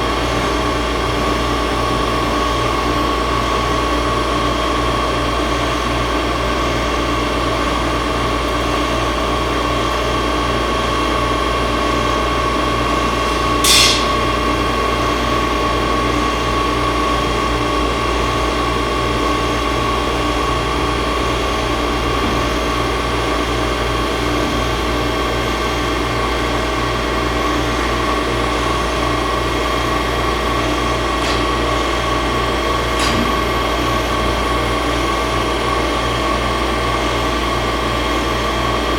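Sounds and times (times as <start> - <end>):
machine low hum: 0.0 - 38.9.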